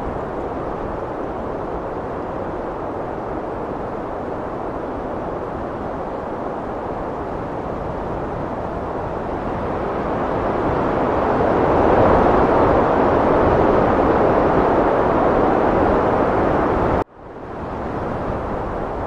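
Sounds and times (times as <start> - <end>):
heavy wind blowing: 0.0 - 19.0.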